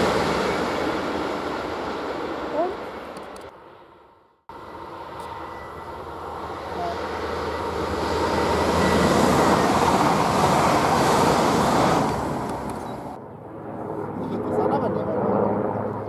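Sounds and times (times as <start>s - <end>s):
train passing at speed: 0.0s - 13.2s.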